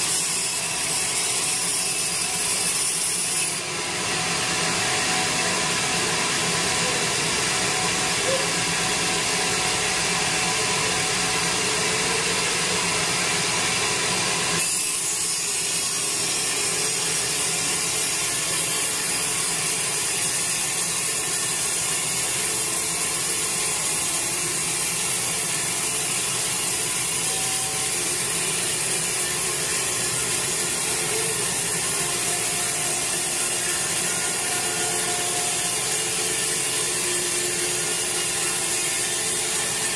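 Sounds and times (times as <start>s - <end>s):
bandsaw cutting log: 0.0s - 39.9s.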